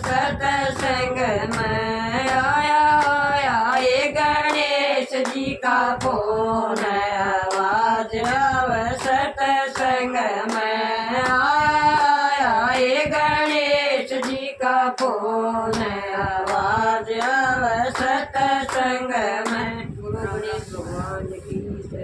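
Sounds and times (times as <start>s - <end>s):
group singing devotional song: 0.0s - 21.7s.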